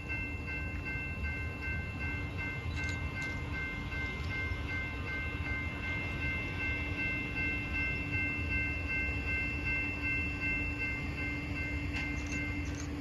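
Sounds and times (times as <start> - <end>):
crossing warning bell ringing: 0.0 - 13.0
low train rumble: 0.0 - 13.0.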